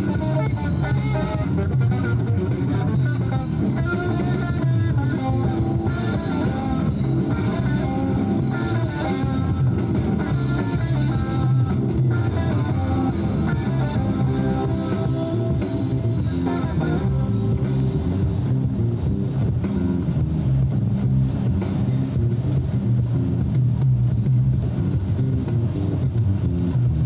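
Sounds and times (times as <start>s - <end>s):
bass line: 0.0s - 27.0s
guitar: 0.0s - 27.0s.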